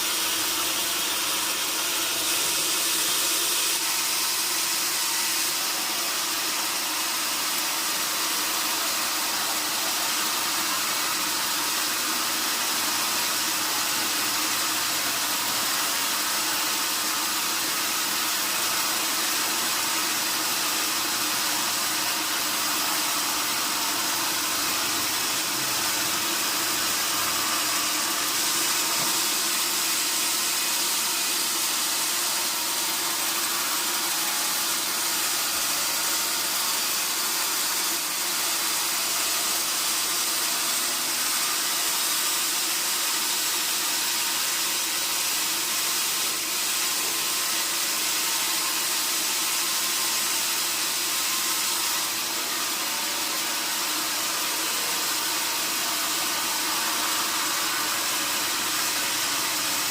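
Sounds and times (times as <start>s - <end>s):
sawmill machinery hiss: 0.0s - 59.9s.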